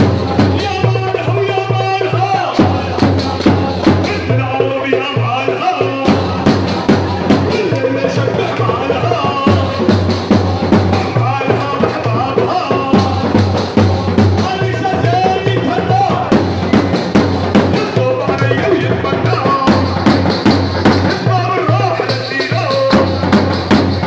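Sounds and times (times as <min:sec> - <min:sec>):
person singing into microphone: 0:00.0 - 0:16.8, 0:17.5 - 0:23.5
drums beating: 0:00.0 - 0:24.0.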